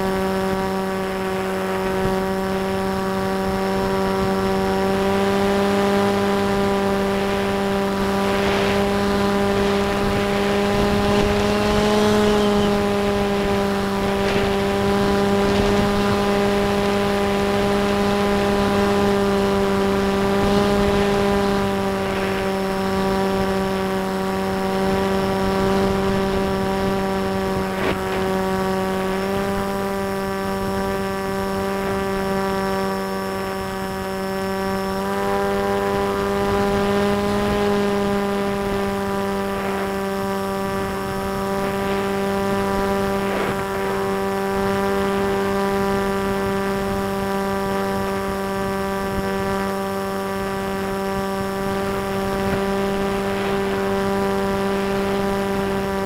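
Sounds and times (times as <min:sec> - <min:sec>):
model airplane motor humming: 0:00.0 - 0:56.0
wind over microphone: 0:00.0 - 0:56.0.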